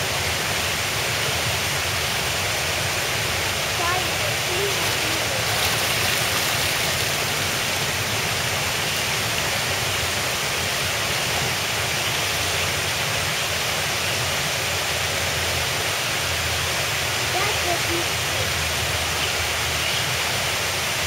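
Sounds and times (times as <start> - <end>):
waterfall rushing over rock: 0.0 - 21.0.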